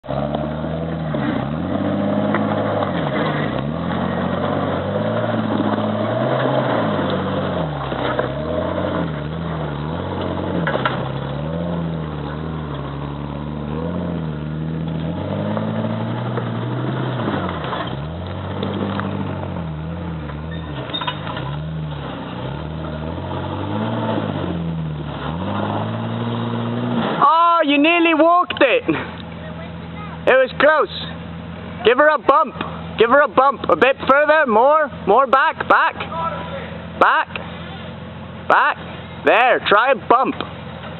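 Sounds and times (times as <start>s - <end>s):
engine revving under load: 0.0s - 40.9s.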